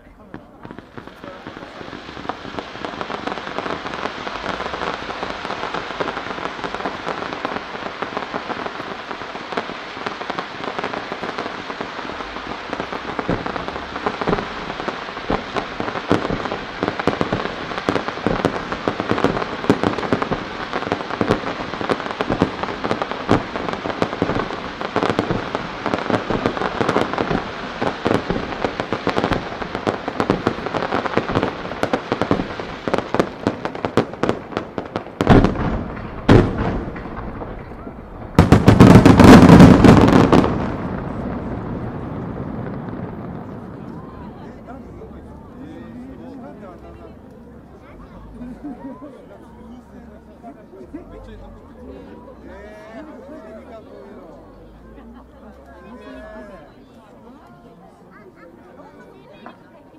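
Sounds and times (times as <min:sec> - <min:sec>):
loud firework bangs: 0:00.0 - 0:49.1
fireworks crackling: 0:00.0 - 0:59.9.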